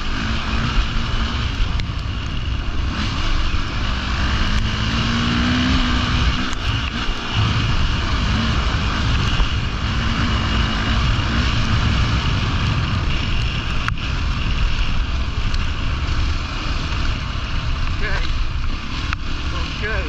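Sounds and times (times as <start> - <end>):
motorcycle engine running: 0.0 - 20.0
wind rumble on camera: 0.0 - 20.0.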